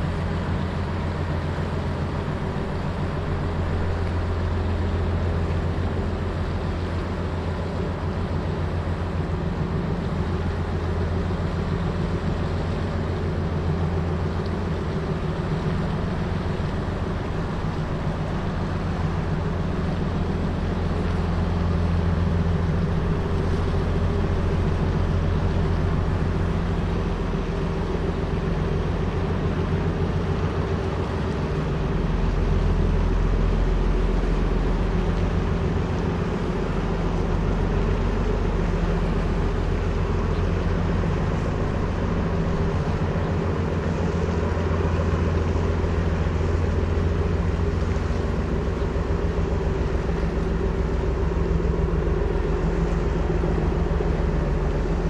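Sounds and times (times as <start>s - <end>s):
diesel engine drone: 0.0s - 55.0s.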